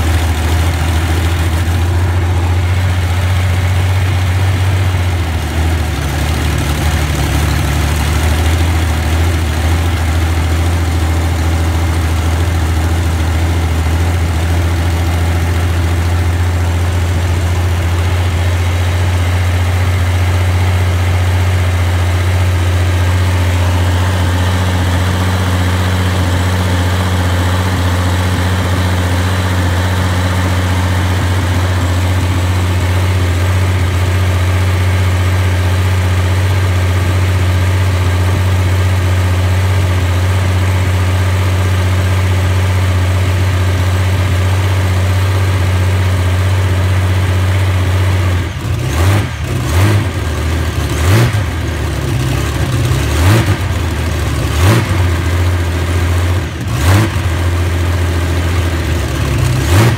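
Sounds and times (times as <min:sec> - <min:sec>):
aircraft engine idling and revving: 0:00.0 - 0:59.9.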